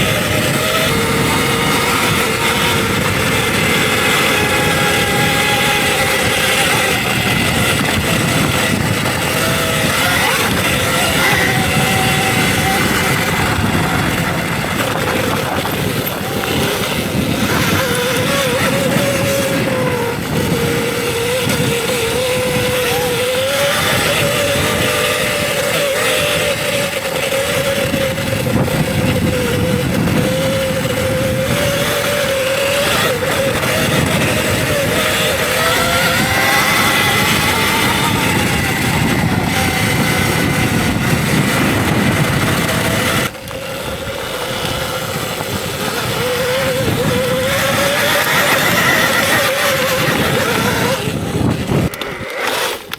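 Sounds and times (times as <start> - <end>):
electric motor whining: 0.0 - 52.9
steady rushing noise: 0.0 - 52.9.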